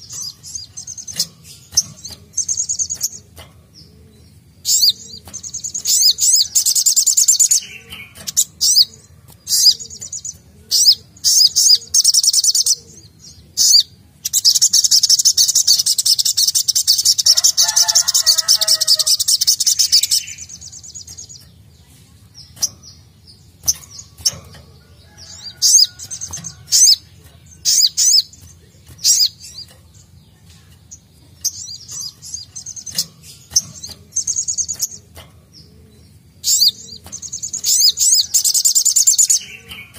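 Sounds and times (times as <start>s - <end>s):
sunbird trilling and chirping: 0.0s - 39.9s.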